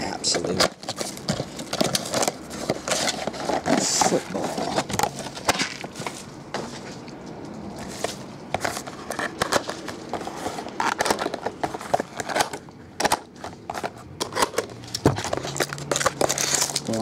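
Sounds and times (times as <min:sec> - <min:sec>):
boxes clicking and knocking: 0:00.0 - 0:06.8, 0:07.8 - 0:17.0.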